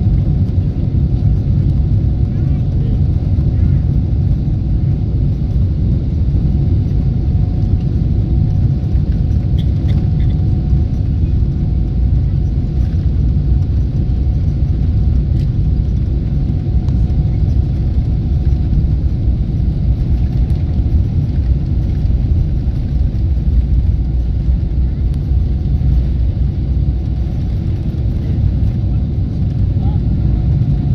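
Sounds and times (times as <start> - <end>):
jet engines deep rumble: 0.0 - 30.9.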